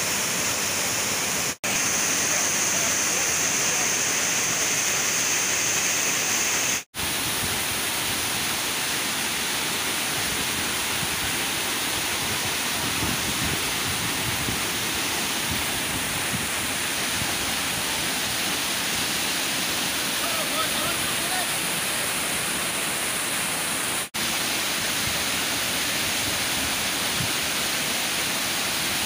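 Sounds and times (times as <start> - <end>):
waterfall rushing into pool: 0.0 - 29.0.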